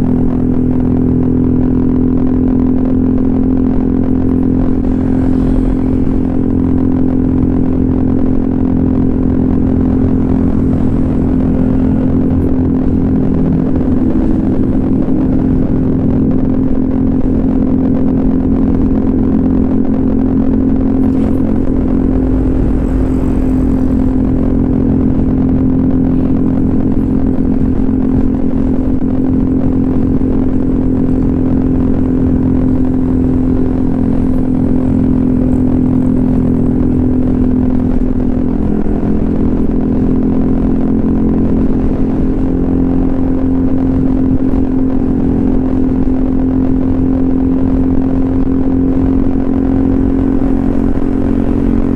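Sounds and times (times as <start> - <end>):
scooter engine running: 0.0 - 51.9.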